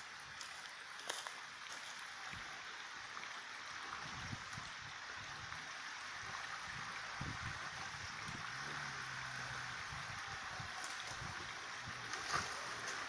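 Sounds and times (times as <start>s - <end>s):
faint low engine hum: 0.0s - 13.0s
running water: 0.0s - 13.0s.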